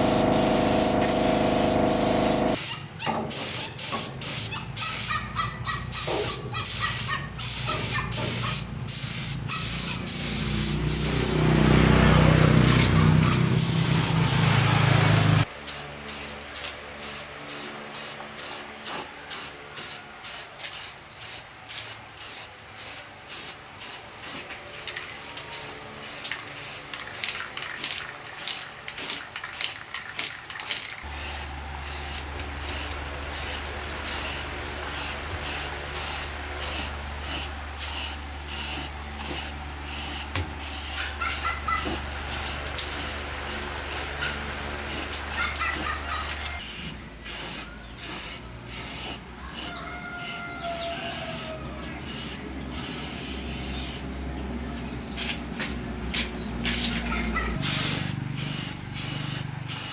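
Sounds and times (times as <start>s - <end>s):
air spray gun hissing: 0.0s - 5.2s, 5.9s - 11.4s, 13.6s - 29.2s, 31.0s - 54.1s, 57.6s - 59.9s.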